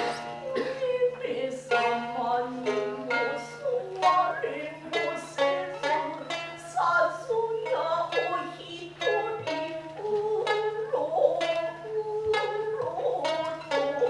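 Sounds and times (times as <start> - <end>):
shamisen plucked notes: 0.0 - 14.0.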